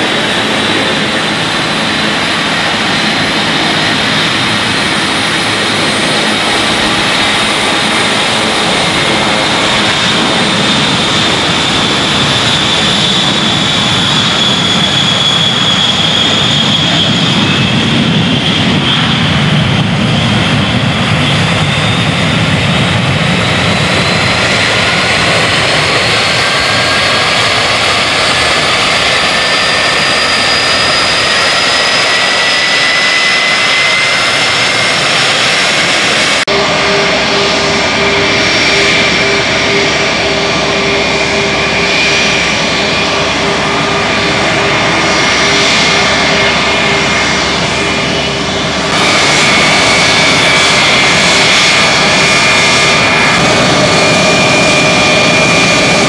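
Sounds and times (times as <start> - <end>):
deep jet rumble: 0.0 - 56.0
jet engine roar with whine: 0.0 - 56.0.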